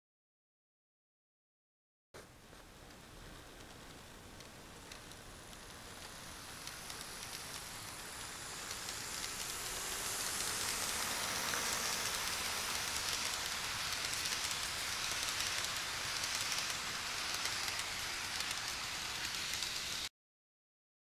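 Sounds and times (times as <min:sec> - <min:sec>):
model electric train running on track: 0:02.4 - 0:20.1.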